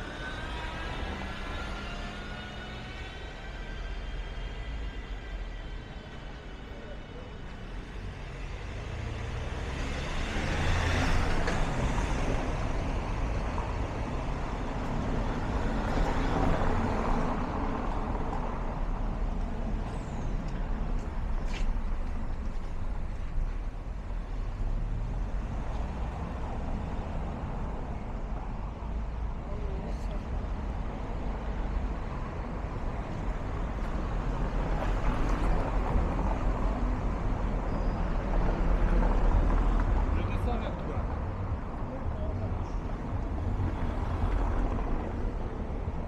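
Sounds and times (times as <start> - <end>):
vehicle engine rumble: 0.0 - 46.0.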